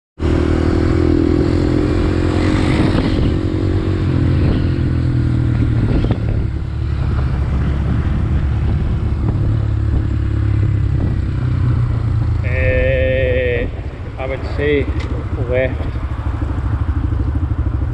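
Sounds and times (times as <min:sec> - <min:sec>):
motorcycle engine running: 0:00.2 - 0:17.9.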